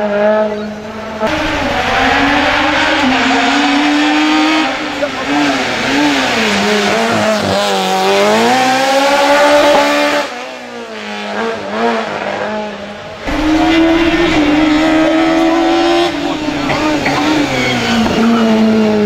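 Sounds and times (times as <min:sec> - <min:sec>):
race car engine accelerating: 0:00.0 - 0:19.0
race car engine at high revs: 0:00.0 - 0:19.0.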